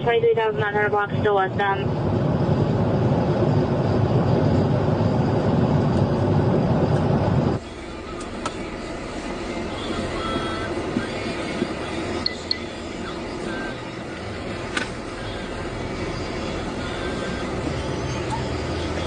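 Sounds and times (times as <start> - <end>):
road wind and engine noise: 0.0 - 19.0.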